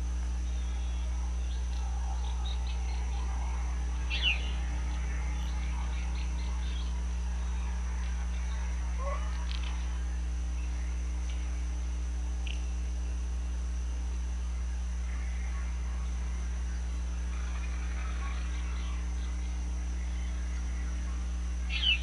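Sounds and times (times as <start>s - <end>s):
faint high whine: 0.0s - 22.0s
low electrical mains hum: 0.0s - 22.0s.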